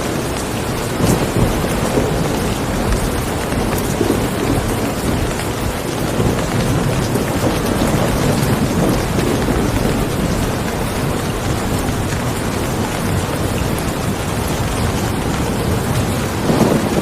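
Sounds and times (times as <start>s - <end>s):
heavy rain: 0.0s - 17.0s
low thunder rumbling: 0.0s - 17.0s.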